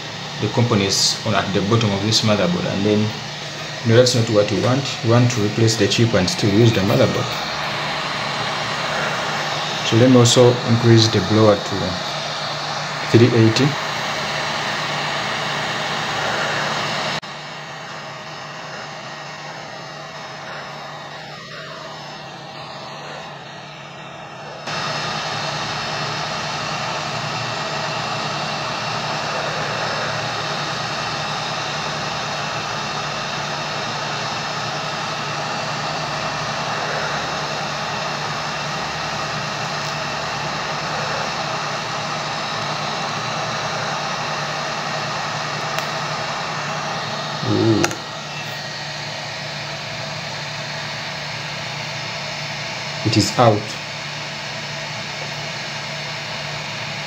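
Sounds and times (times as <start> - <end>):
hot-air gun blowing: 0.0 - 57.0.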